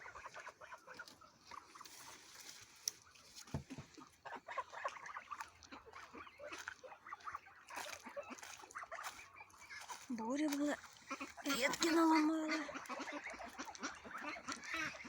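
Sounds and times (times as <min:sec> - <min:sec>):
poultry clucking and peeping: 0:00.0 - 0:15.0.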